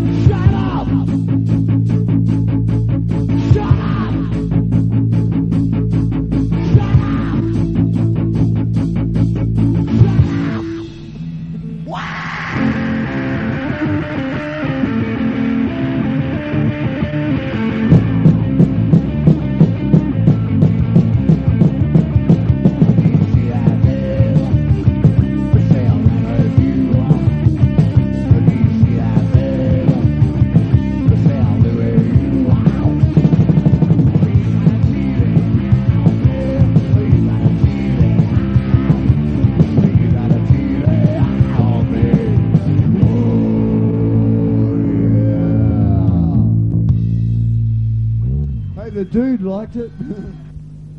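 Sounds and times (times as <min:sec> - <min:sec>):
steady drum beat: 0:00.0 - 0:12.0, 0:17.5 - 0:48.1
instrumental rock music: 0:00.0 - 0:50.9.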